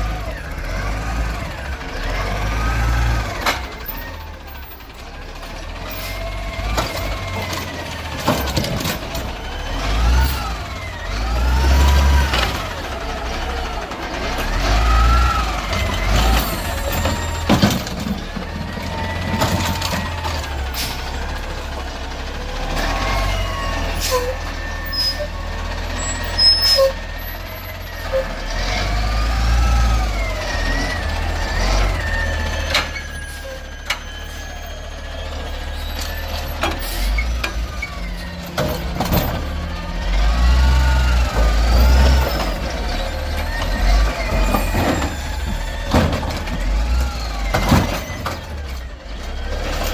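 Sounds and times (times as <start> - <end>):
refuse truck diesel engine: 0.0 - 49.9.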